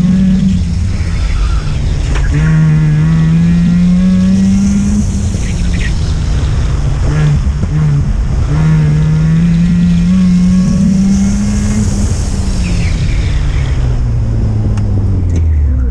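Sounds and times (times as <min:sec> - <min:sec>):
rotary engine accelerating and slowing: 0:00.0 - 0:15.9.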